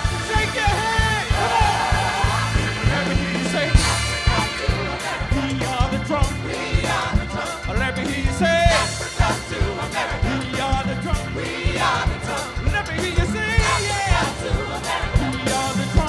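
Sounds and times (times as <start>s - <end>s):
live band music: 0.0s - 16.0s
people singing: 0.0s - 16.0s
steady drum beat: 0.0s - 16.0s.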